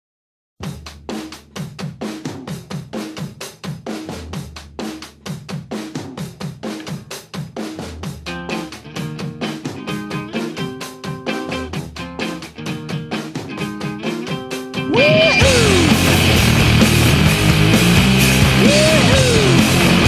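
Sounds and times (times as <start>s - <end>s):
drum kit beat: 0.6s - 20.0s.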